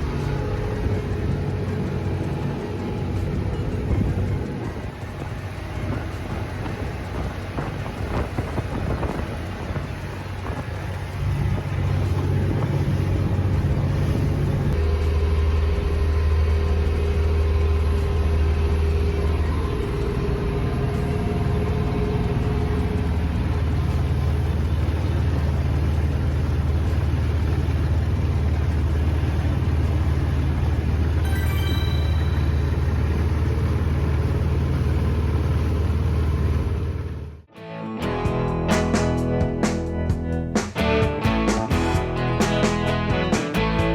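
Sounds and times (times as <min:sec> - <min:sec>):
water rushing: 0:00.0 - 0:37.1
boat diesel engine drone: 0:00.0 - 0:43.9.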